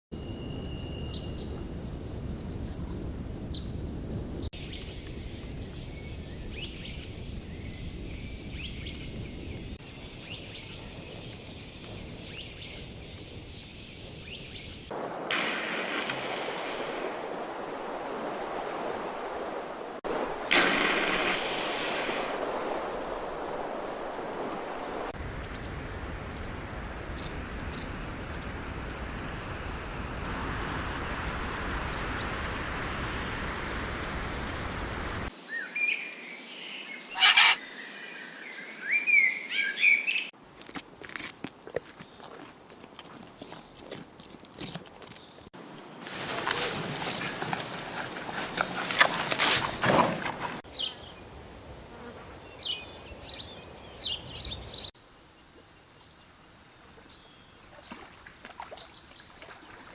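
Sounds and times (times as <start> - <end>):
outdoor background noise: 0.1 - 59.9.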